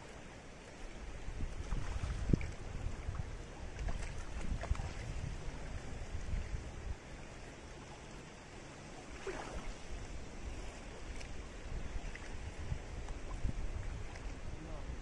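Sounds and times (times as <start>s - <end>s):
small waves lapping at shore: 0.0s - 15.0s
wind gusting on microphone: 0.9s - 7.2s, 9.2s - 15.0s.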